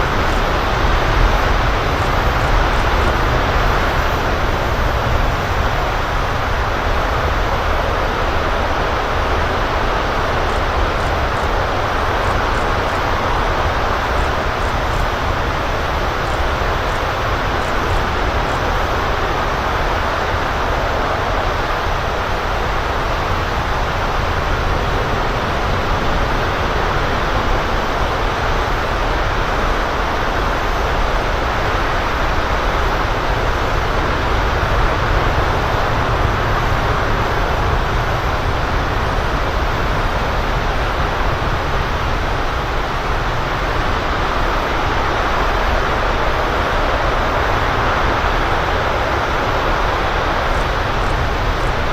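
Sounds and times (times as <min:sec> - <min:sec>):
distant rocket engine roar: 0:00.0 - 0:51.9.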